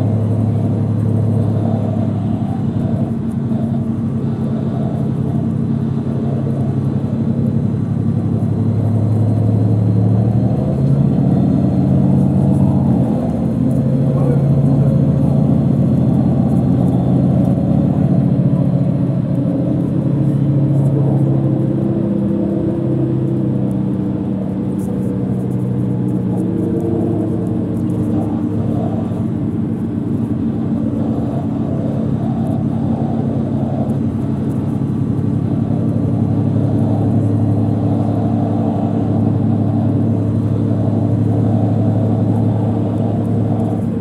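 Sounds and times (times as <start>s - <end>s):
bus engine droning: 0.0s - 44.0s.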